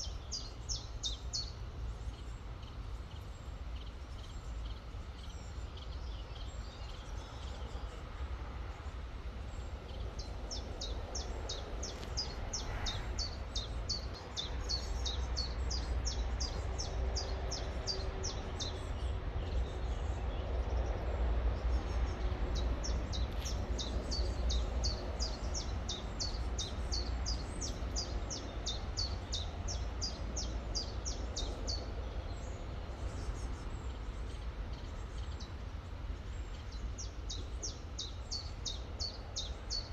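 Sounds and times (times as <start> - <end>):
songbird chirping: 0.0 - 39.9
steady low rumble: 1.6 - 39.9.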